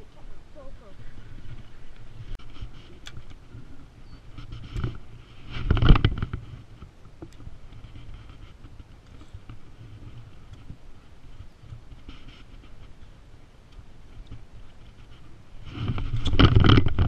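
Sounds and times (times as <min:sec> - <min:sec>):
fishing tackle rustling and knocking: 0:01.1 - 0:17.0.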